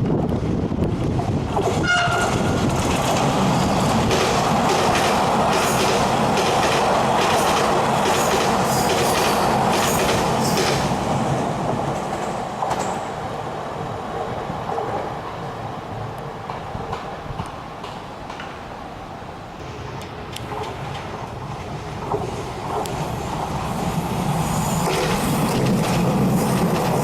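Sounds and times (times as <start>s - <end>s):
clickety-clack over rail joints: 0.0s - 13.1s, 16.2s - 18.6s, 19.9s - 23.9s, 24.8s - 27.0s
train wheels rumbling on rails: 0.0s - 27.0s.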